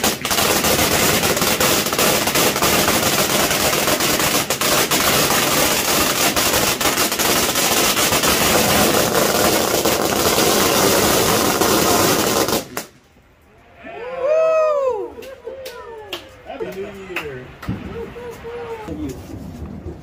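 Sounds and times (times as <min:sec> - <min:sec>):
firecrackers crackling: 0:00.0 - 0:13.6, 0:15.1 - 0:20.0.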